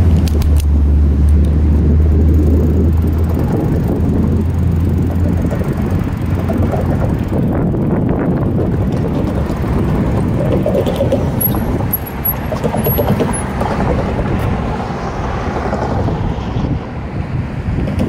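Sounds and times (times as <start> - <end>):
cars passing: 0.0 - 18.0
road noise: 0.0 - 18.0
wind rumble: 0.0 - 18.0.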